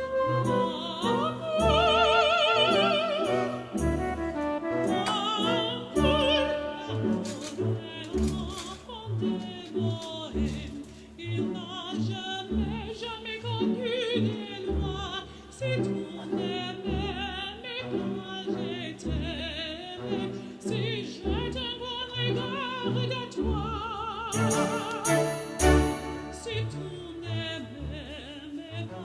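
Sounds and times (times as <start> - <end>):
orchestra playing: 0.0 - 28.2
woman singing opera: 0.0 - 29.0.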